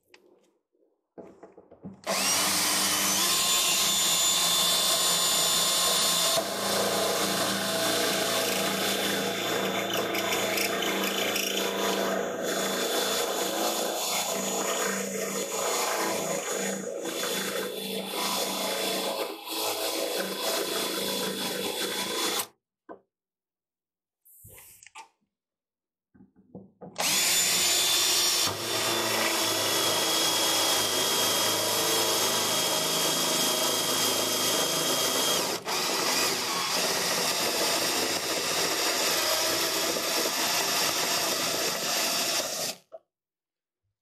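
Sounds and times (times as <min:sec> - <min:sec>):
cordless drill cutting steel: 0:02.0 - 0:22.5, 0:27.0 - 0:42.9.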